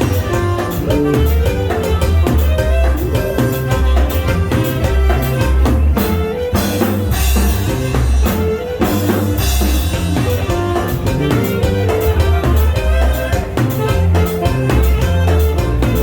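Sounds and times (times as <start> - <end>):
dance music with drums bass guitar: 0.0 - 16.0.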